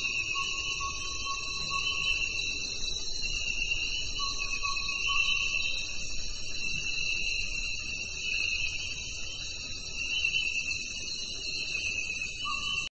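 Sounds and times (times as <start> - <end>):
insects trilling: 0.0 - 12.9.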